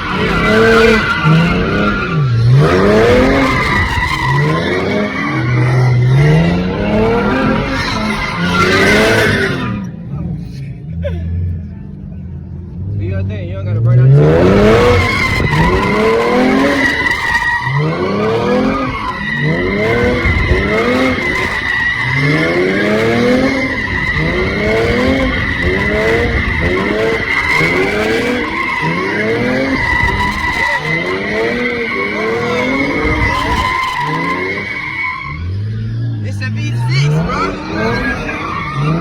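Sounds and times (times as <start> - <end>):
tyres squealing: 0.0 - 9.8, 14.4 - 39.0
car engine revving: 0.0 - 39.0.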